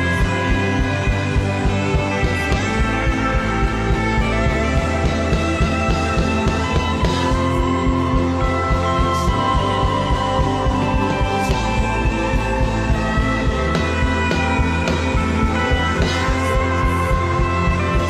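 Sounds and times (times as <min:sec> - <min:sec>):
instrumental worship music: 0:00.0 - 0:18.0.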